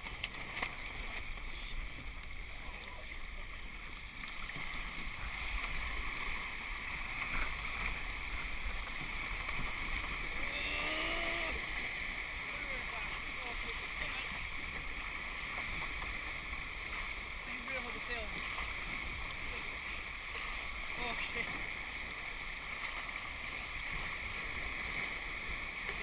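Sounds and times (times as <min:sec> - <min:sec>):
water rushing along a hull: 0:00.0 - 0:26.0.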